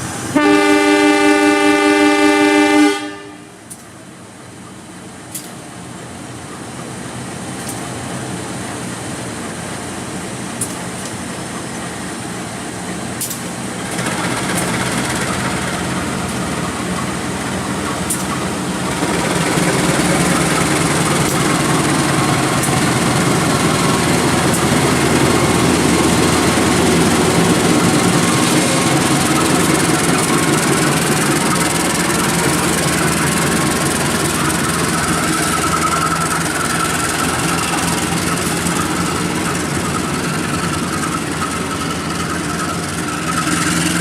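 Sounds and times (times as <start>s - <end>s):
diesel locomotive engine accelerating: 0.0s - 44.0s.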